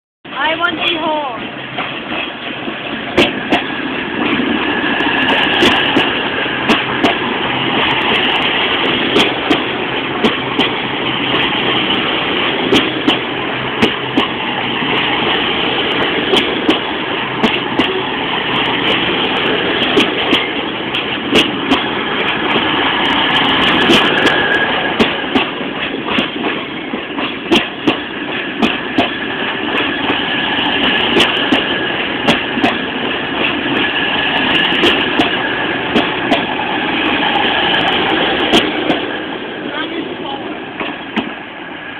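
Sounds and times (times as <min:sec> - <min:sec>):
diesel train rumbling: 0:00.3 - 0:41.9
wheels clicking over rail joints: 0:00.4 - 0:41.4.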